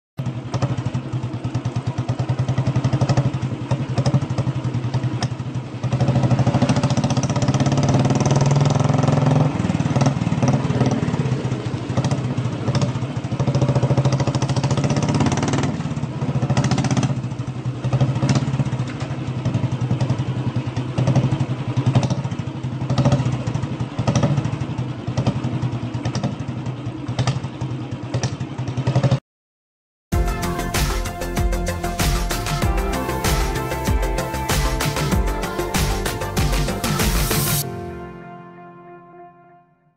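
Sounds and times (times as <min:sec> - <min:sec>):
motorcycle engine running: 0:00.2 - 0:29.2, 0:30.1 - 0:38.8.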